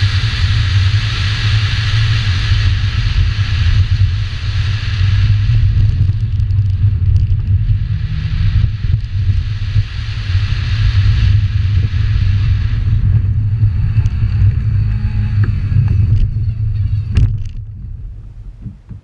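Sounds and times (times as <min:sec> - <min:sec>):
rushing hiss of dirt and wind: 0:00.0 - 0:18.7
car engine running hard: 0:00.0 - 0:19.0.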